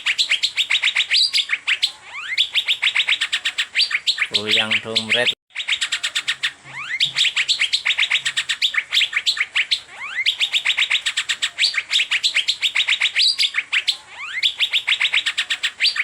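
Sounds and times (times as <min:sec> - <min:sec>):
bird singing sharp chirps: 0:00.0 - 0:16.0.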